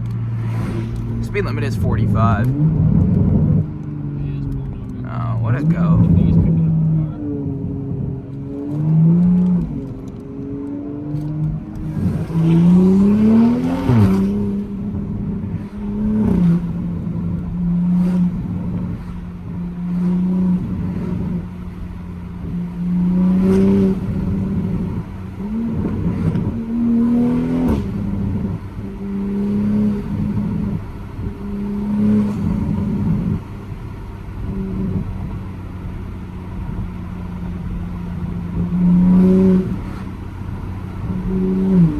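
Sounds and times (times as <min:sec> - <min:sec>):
car engine revving: 0:00.0 - 0:41.9
exhaust pops: 0:00.0 - 0:41.9.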